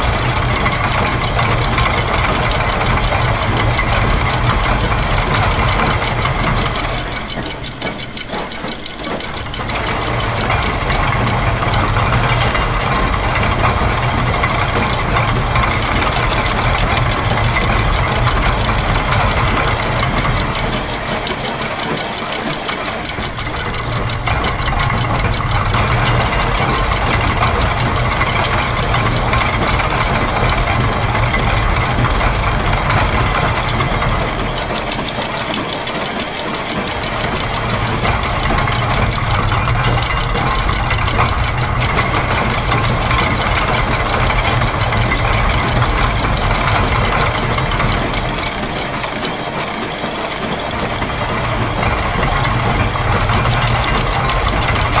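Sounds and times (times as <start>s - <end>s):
clockwork ticking: 0.0s - 55.0s
gears turning: 0.0s - 55.0s
ratchet clicking: 0.0s - 55.0s
sewing machine: 0.0s - 55.0s.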